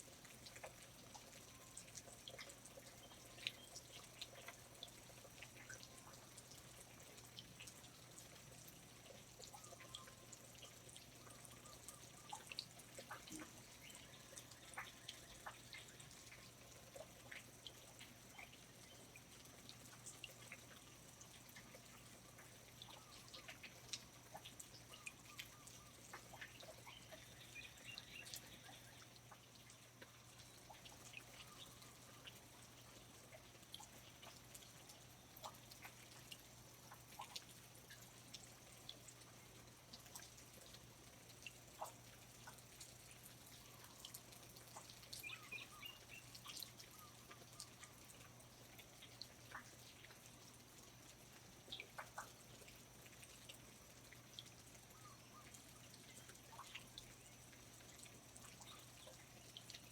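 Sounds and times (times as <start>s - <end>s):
water drips ticking: 0.0s - 59.9s.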